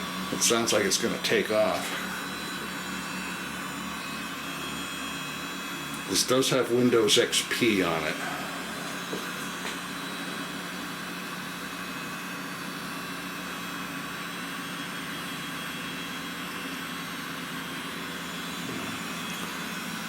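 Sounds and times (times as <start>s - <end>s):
computer cooling fans whirring: 0.0s - 20.0s.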